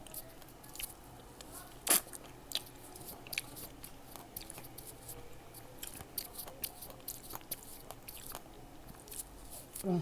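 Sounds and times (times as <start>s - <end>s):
chewing crunchy fruit: 0.0s - 10.0s.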